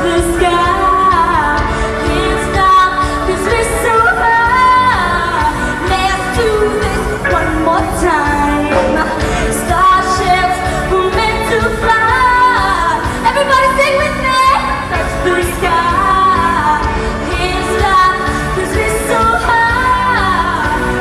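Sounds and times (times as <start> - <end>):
pop music with steady beat: 0.0 - 21.0
woman singing pop song: 0.0 - 21.0.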